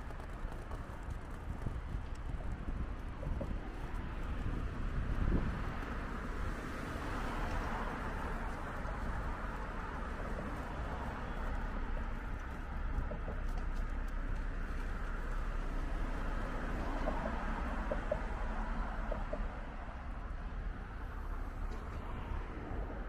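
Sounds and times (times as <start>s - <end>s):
low city street rumble: 0.0s - 23.0s.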